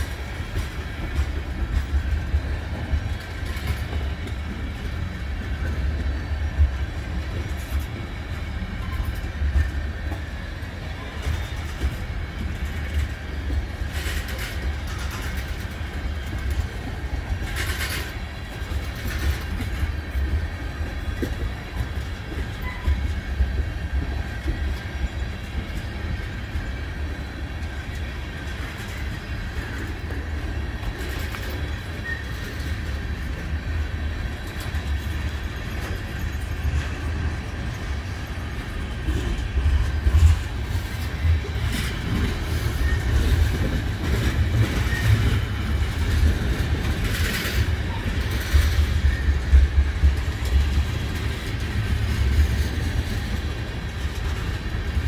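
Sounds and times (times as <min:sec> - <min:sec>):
clacks over rail joints: 0:00.0 - 0:55.0
train wheels rumbling on rail: 0:00.0 - 0:55.0.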